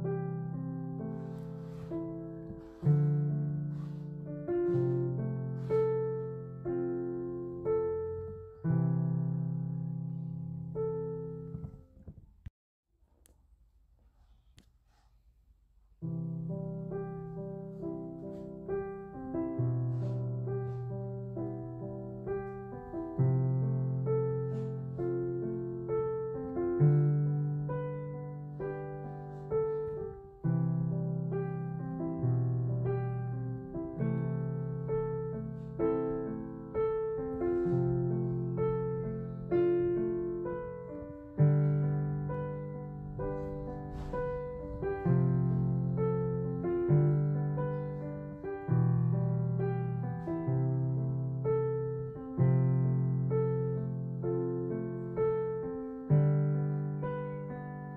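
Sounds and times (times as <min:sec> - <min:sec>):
gentle piano music: 0:00.0 - 0:12.3, 0:16.0 - 0:57.9.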